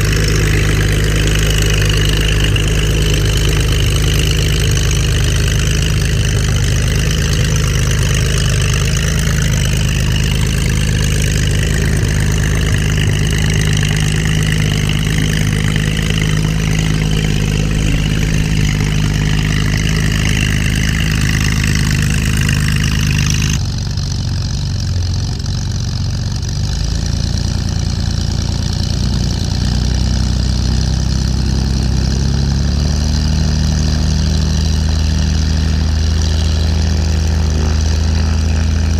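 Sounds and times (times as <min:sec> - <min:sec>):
aircraft engine idling: 0:00.0 - 0:38.9.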